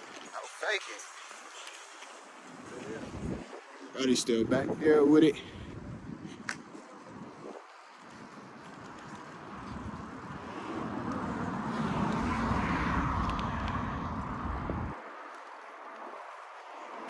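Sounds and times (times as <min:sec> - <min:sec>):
road and traffic noise: 0:00.0 - 0:17.0
wind rumble on microphone: 0:02.5 - 0:17.0.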